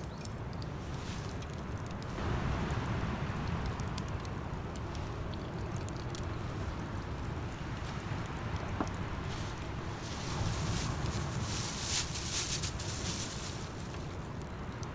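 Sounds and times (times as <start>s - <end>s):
bonfire crackling: 0.0s - 14.9s
low rumble of wind: 0.0s - 14.9s.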